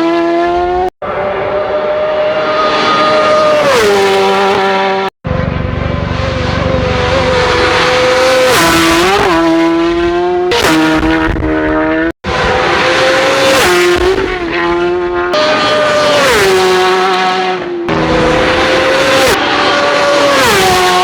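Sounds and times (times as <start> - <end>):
racing motorbikes passing: 0.0 - 21.0.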